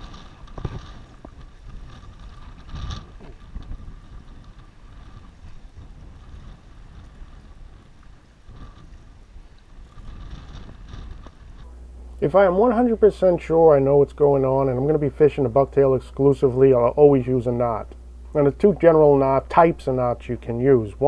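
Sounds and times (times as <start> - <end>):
water noise: 0.0 - 21.0
wind rumbling on microphone: 0.0 - 21.0.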